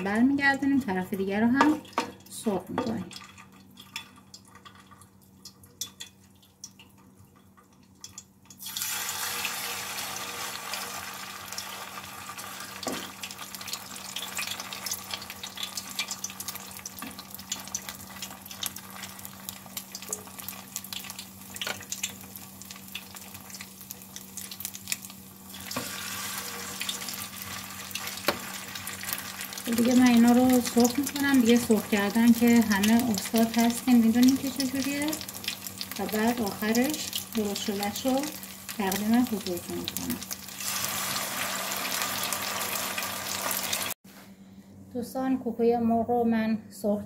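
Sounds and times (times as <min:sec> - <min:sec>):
patties sizzling in hot oil: 0:01.5 - 0:44.0.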